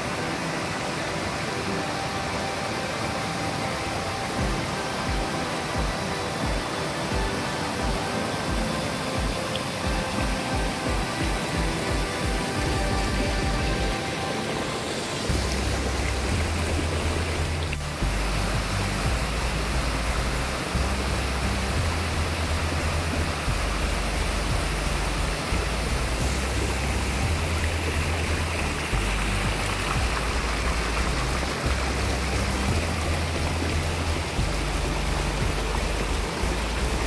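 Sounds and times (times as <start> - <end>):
slow low background music: 0.0 - 37.0
waterfall rushing over rocks: 0.0 - 37.0.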